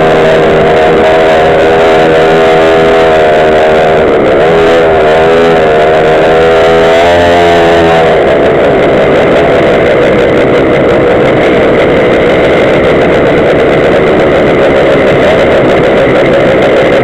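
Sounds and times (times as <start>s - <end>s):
small two-stroke engines idling: 0.0s - 17.0s.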